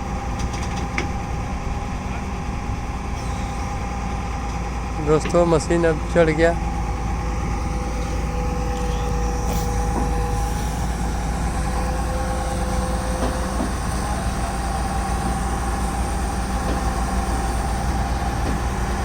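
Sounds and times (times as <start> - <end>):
excavator diesel engine rumble: 0.0 - 19.0
high steady whine: 0.0 - 19.0.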